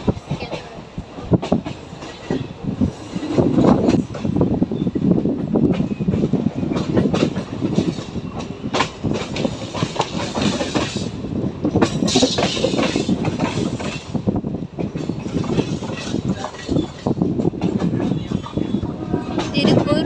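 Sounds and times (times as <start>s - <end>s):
train wheels rumbling and clacking: 0.0s - 20.0s.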